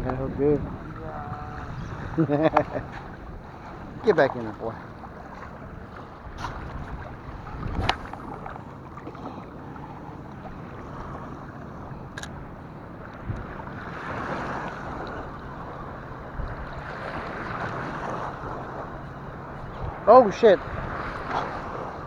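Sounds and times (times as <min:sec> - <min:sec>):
wind on microphone: 0:00.0 - 0:08.8, 0:09.7 - 0:22.0
waves washing on beach: 0:00.0 - 0:22.0.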